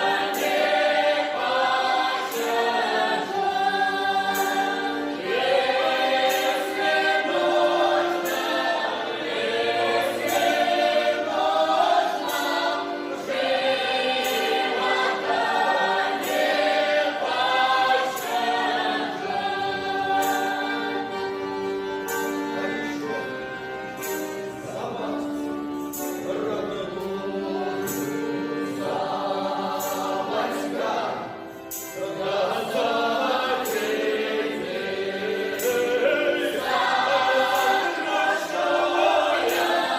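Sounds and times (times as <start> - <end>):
folk vocal ensemble singing: 0.0 - 39.9
sharp rhythmic clicks: 0.0 - 39.9.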